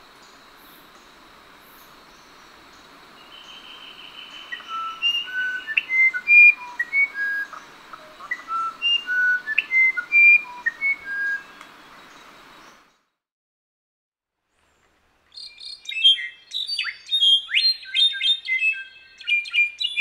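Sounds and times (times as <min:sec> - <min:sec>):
background hiss: 0:00.0 - 0:13.0, 0:14.4 - 0:20.0.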